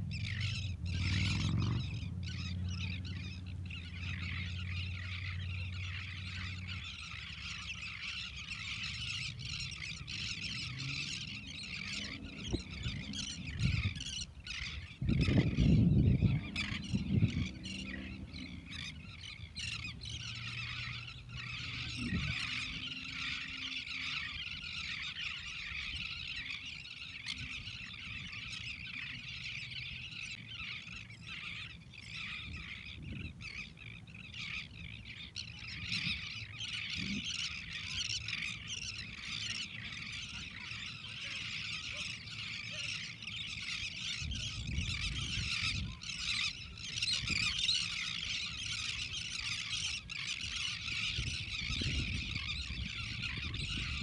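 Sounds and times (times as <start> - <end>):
terns calling: 0.0 - 54.0.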